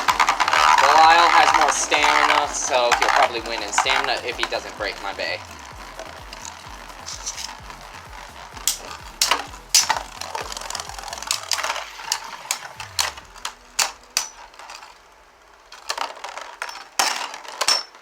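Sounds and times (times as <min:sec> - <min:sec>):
spinning tops clacking together: 0:00.0 - 0:18.0
spinning tops scraping in plastic stadium: 0:00.0 - 0:18.0.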